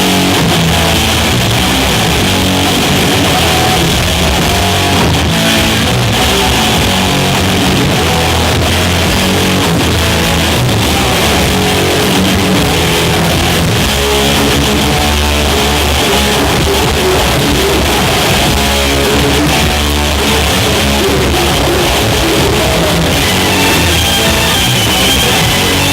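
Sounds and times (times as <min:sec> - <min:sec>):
electric guitar: 0:00.0 - 0:25.9
rock band playing: 0:00.0 - 0:25.9.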